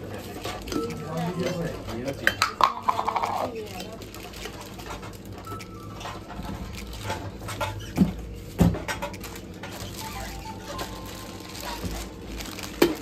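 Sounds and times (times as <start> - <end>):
objects clicking and rustling: 0.0 - 13.0.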